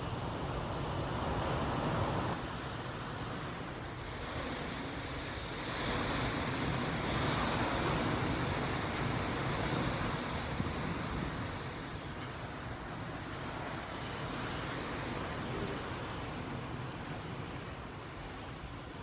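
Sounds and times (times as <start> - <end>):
strong wind around building: 0.0 - 19.0.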